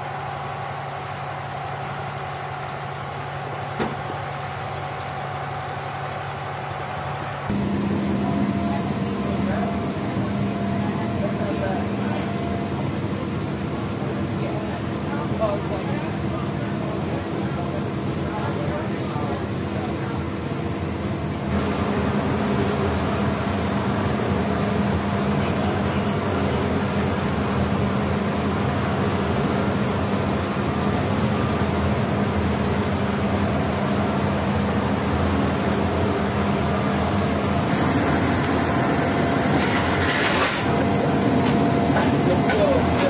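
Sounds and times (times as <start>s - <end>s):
loud engine drone: 7.5s - 43.0s.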